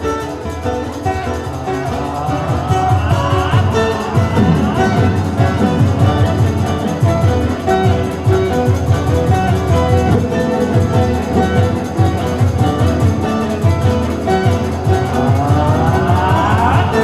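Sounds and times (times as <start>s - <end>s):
plucked string music: 0.0s - 17.0s
rhythmic bass line: 0.0s - 17.0s.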